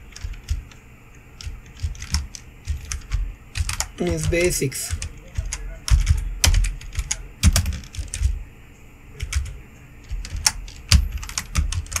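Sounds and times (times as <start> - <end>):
typing on computer keyboard: 0.0 - 0.8, 1.4 - 8.4, 9.2 - 12.0.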